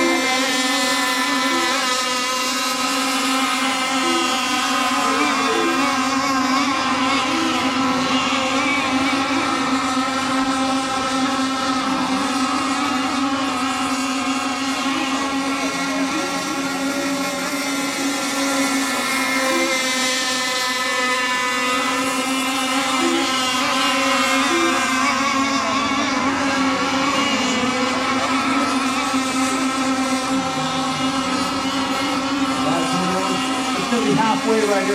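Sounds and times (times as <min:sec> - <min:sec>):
model boat engine: 0:00.0 - 0:34.9
wavering model boat engine: 0:00.0 - 0:34.9.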